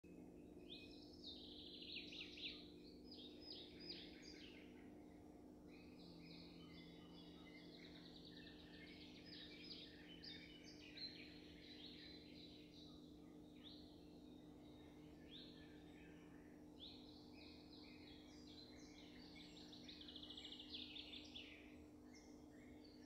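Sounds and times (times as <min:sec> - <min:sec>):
faint birdsong chirps and trills: 0:00.0 - 0:23.0
steady low hum: 0:00.0 - 0:23.0.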